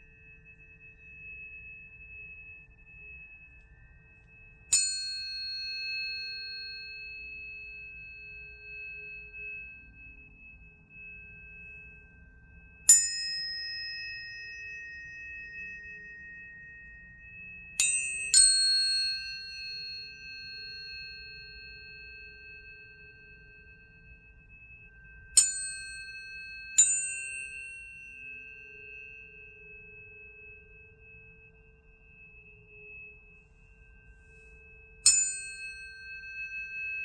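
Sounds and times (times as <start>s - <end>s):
pure ringing tones: 0.0s - 37.0s
tuning forks struck: 0.0s - 37.0s.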